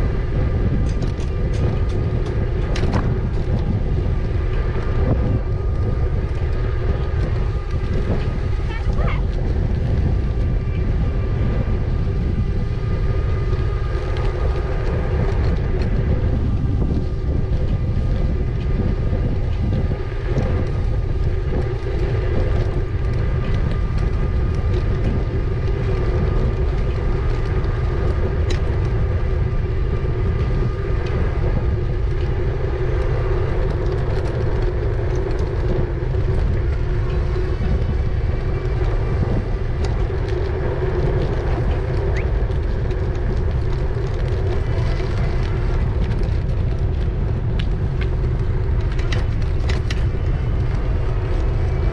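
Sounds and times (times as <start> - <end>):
wind rumble on microphone: 0.0 - 51.9.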